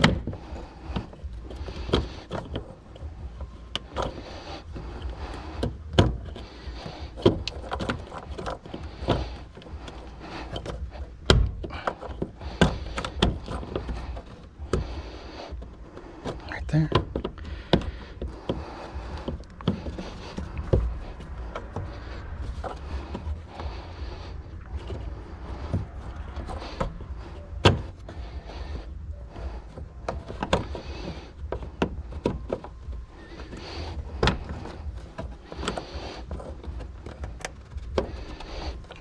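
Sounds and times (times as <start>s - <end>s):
lock ring clicking and scraping: 0.0s - 39.0s.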